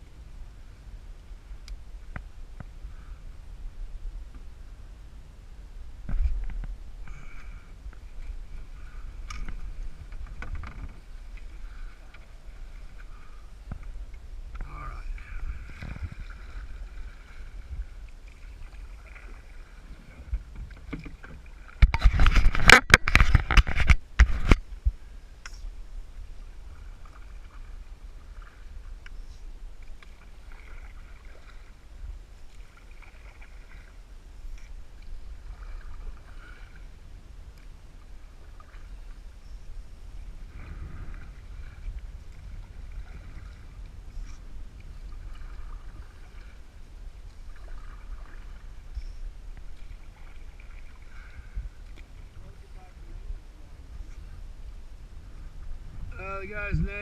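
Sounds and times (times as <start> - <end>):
water rumble: 0.0 - 57.0
wind: 0.0 - 57.0.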